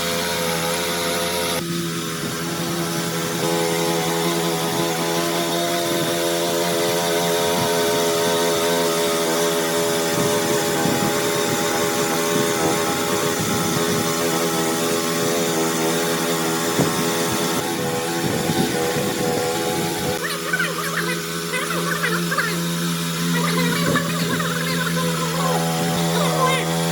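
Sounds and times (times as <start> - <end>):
motor running steadily: 0.0 - 26.9.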